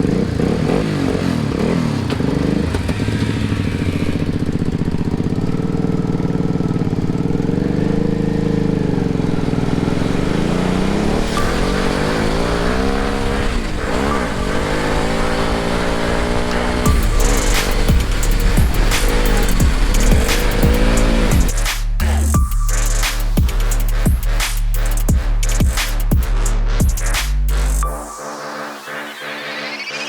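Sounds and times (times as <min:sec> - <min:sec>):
off-road vehicle engine revving: 0:00.0 - 0:27.8.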